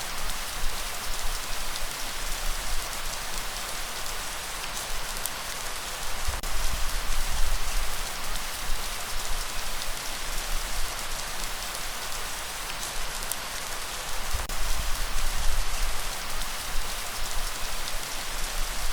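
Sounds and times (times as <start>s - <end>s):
heavy rain hissing: 0.0s - 18.9s.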